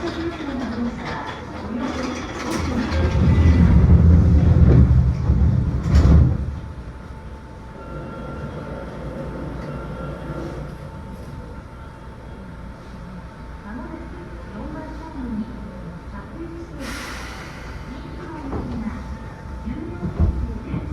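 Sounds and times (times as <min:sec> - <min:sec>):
electric train rumbling: 0:00.0 - 0:20.9
faint steady train whine: 0:00.0 - 0:20.9.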